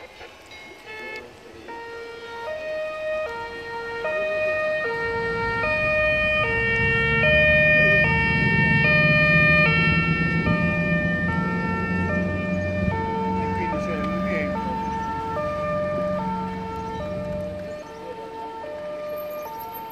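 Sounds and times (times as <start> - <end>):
boat engine rumble: 0.0 - 19.9
two-tone siren: 0.0 - 19.9.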